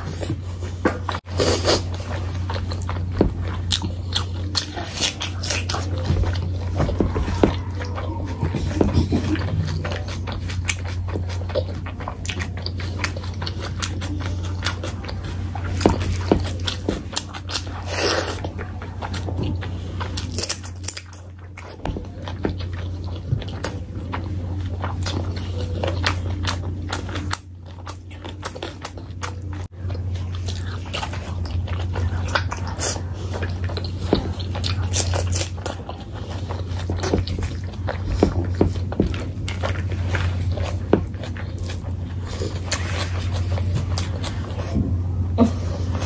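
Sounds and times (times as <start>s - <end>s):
close chewing and biting: 0.0s - 46.0s
steady low hum: 0.0s - 46.0s.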